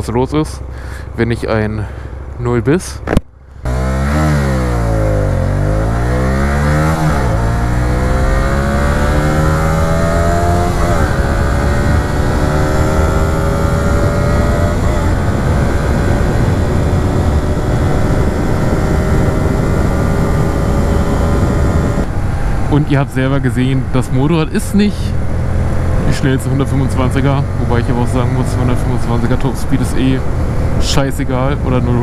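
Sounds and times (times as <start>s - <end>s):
motorcycle engine accelerating: 3.6s - 32.0s.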